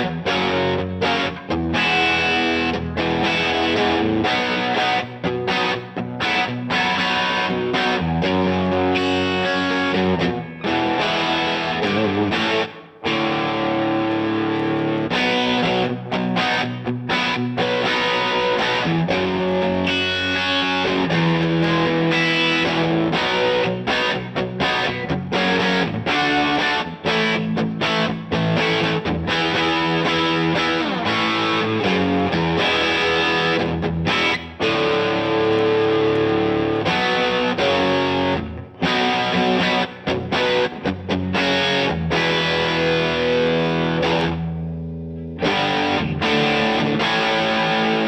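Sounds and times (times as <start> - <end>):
overdriven electric guitar: 0.0 - 48.0.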